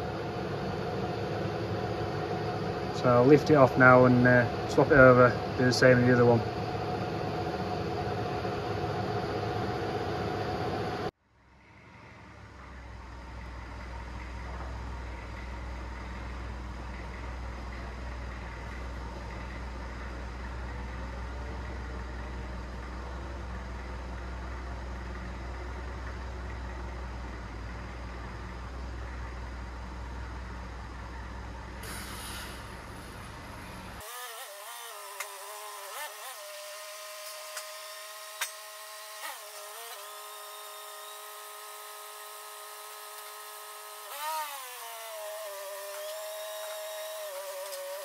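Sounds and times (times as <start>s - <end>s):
forklift engine running: 0.0s - 48.0s
machine hum: 0.0s - 48.0s.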